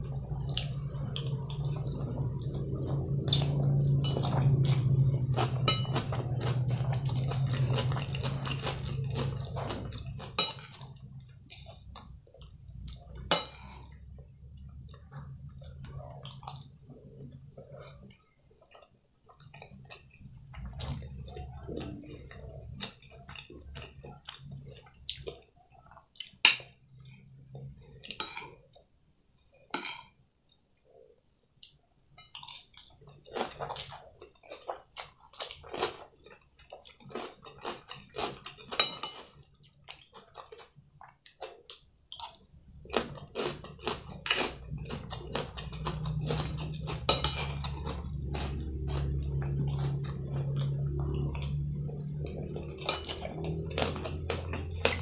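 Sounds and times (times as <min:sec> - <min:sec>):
close chewing: 0:00.1 - 0:26.4, 0:32.8 - 0:55.0.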